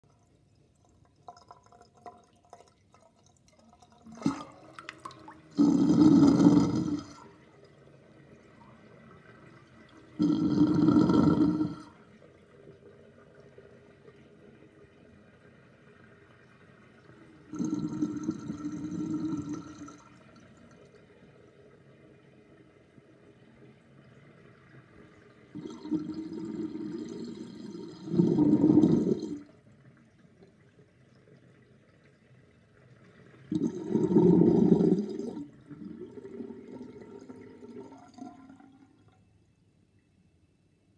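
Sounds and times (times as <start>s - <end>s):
sink drain gurgling: 0.0s - 22.4s, 24.0s - 39.2s
faint water trickle: 0.0s - 40.9s.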